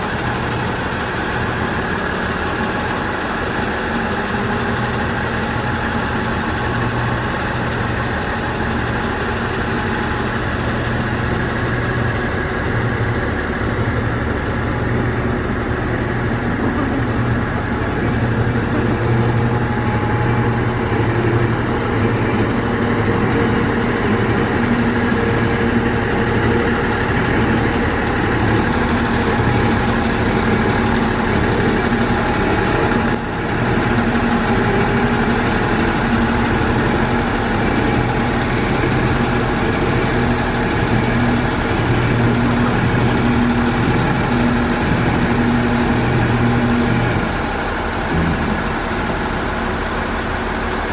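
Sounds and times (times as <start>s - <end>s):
diesel railcar engine idling: 0.0s - 50.9s.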